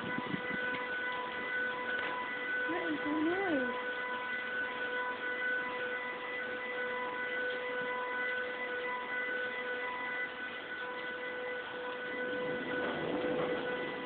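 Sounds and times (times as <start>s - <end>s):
siren-like droning hum: 0.0s - 14.0s.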